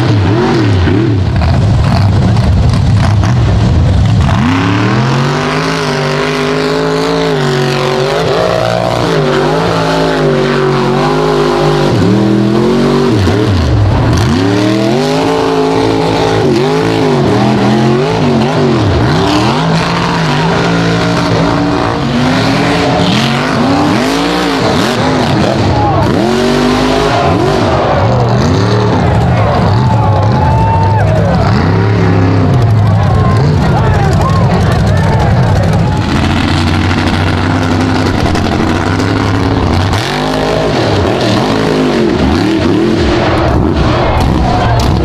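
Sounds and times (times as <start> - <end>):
low rough rumble: 0.0 - 45.0
truck engines revving: 0.0 - 45.0.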